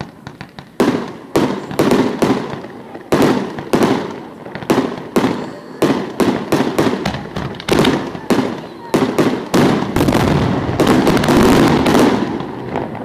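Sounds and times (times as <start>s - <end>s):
fireworks bursting bangs: 0.0s - 13.0s.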